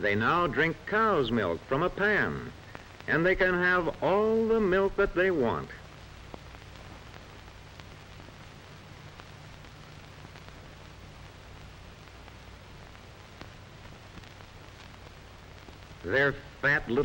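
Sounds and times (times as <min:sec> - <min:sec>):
film hiss: 0:00.0 - 0:17.0.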